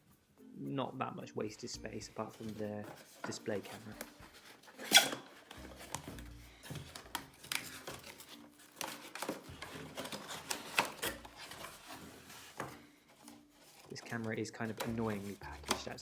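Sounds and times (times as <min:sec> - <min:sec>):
packaging rustling and crinkling: 0:02.2 - 0:16.0.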